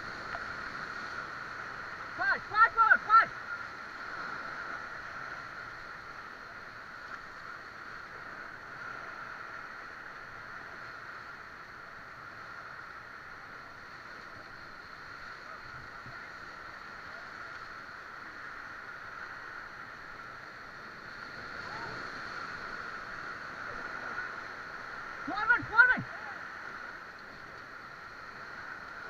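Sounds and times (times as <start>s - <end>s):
river rapids rushing: 0.0s - 8.6s, 11.3s - 29.0s.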